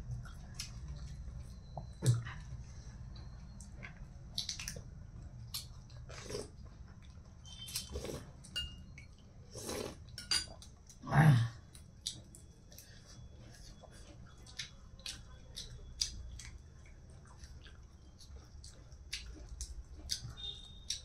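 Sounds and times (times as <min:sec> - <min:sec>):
chewing with crunches: 0:00.0 - 0:11.0, 0:11.6 - 0:21.0.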